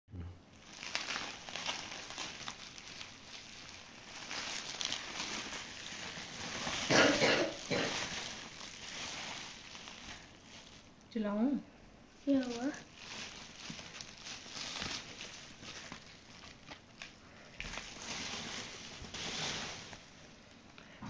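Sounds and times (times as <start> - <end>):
bubble wrap crinkling: 0.5 - 21.0.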